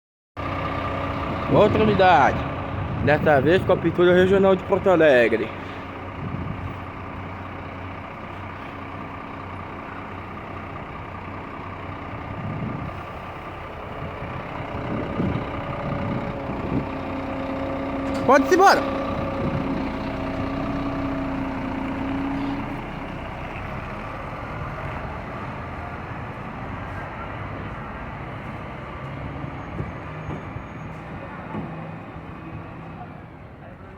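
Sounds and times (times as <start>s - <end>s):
bus diesel engine idling: 0.4s - 33.9s
road and traffic noise: 0.4s - 33.9s.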